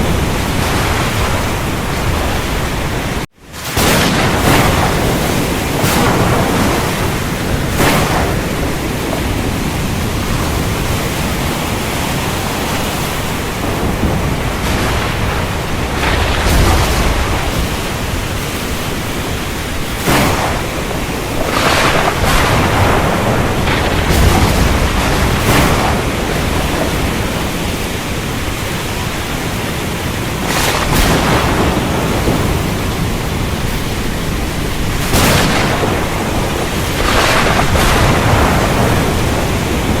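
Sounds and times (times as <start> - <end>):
heavy rain: 0.0 - 40.0
low thunder rumbles: 0.0 - 40.0
thunder cracks: 0.0 - 40.0.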